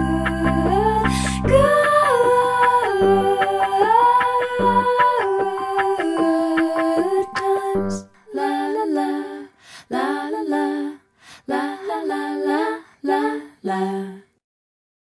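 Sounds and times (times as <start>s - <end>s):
slow gentle song: 0.0s - 14.2s.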